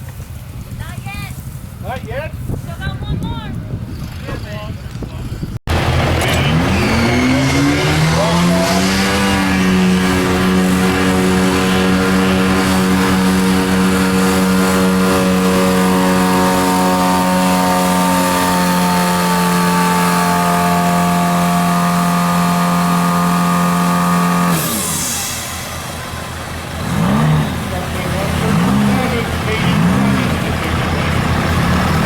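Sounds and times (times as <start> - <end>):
truck engine at high revs: 3.8 - 32.0.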